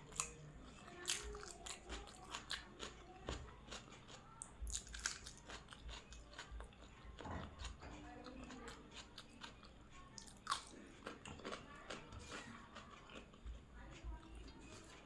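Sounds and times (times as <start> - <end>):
person chewing crunchy food: 0.0 - 13.7.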